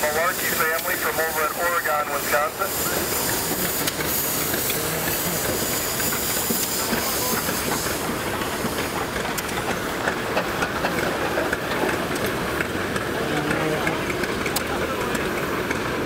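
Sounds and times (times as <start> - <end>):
steady hiss of steam: 0.0 - 13.2
steam traction engines running: 0.0 - 16.0.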